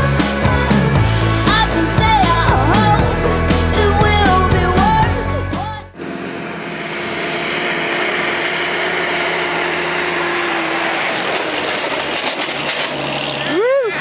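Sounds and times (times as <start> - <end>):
vehicle engine running: 0.0 - 13.7.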